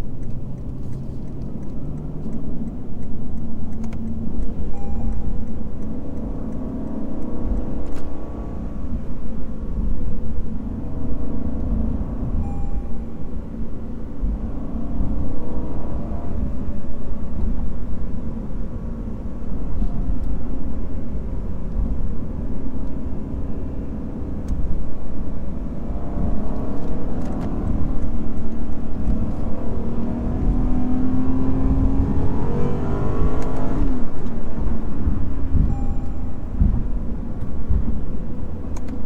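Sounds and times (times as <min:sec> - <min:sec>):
car engine accelerating: 0:00.0 - 0:39.0
low road rumble: 0:00.0 - 0:39.0.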